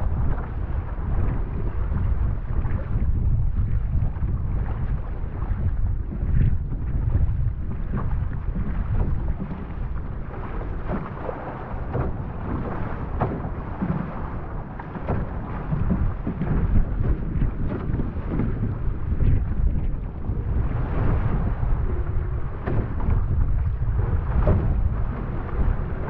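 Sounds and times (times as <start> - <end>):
water slapping against hull: 0.0 - 26.0
wind buffeting microphone: 0.0 - 26.0.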